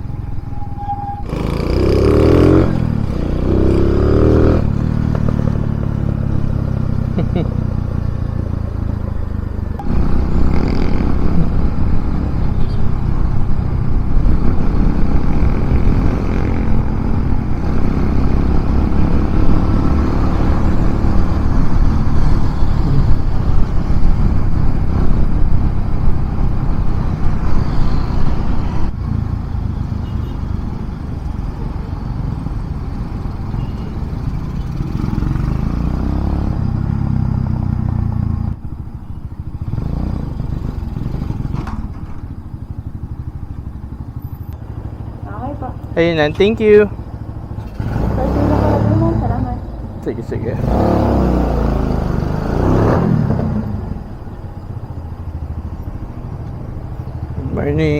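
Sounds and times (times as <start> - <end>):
motorcycle engine running: 1.3 - 57.9.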